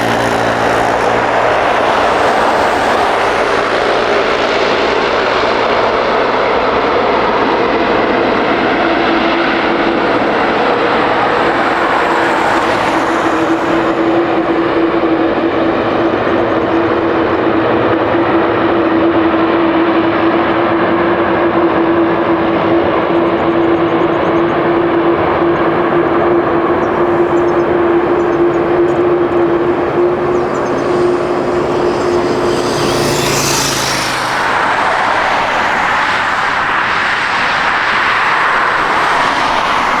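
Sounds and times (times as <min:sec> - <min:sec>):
jet airliner engines running: 0:00.0 - 0:40.0.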